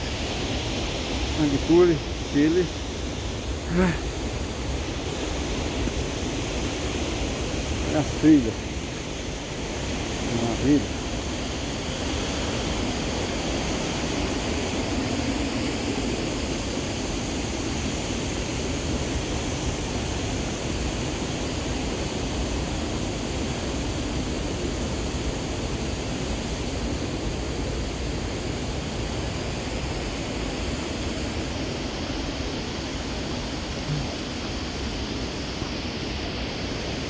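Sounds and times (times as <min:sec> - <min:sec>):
river rushing: 0:00.0 - 0:37.0.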